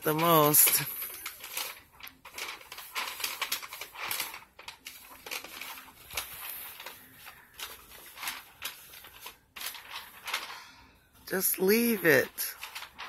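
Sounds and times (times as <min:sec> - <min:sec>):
drapes rustling: 0:00.0 - 0:13.0.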